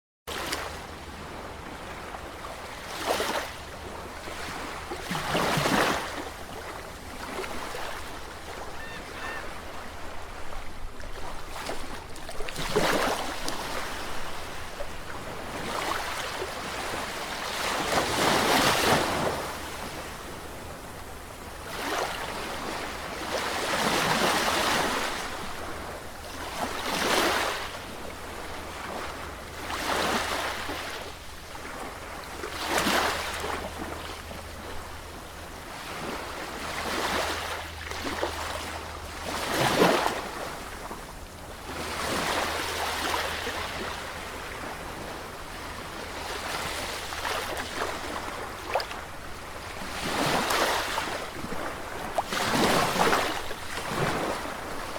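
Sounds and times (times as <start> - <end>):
sea waves breaking on shore: 0.3 - 54.9.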